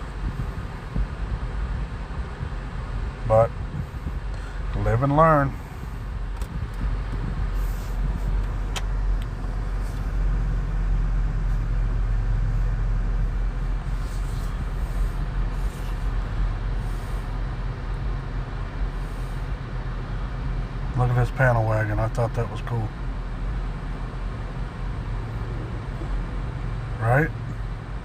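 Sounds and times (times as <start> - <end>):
car engine running at low revs: 0.0 - 28.0.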